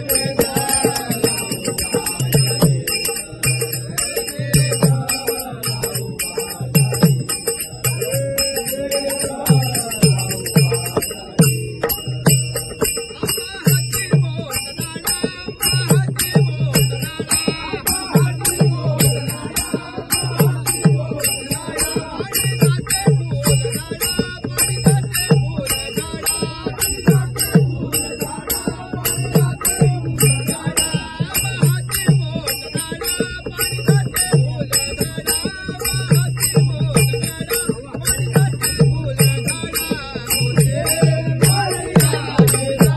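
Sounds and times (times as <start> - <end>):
hand cymbals ringing: 0.0 - 42.9.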